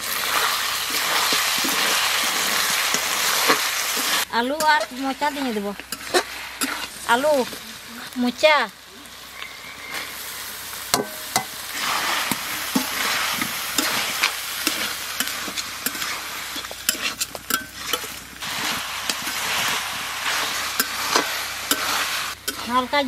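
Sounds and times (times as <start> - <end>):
food sizzling in a pan: 0.0 - 23.0
metal spatula scraping a pan: 0.2 - 7.8, 11.0 - 23.0.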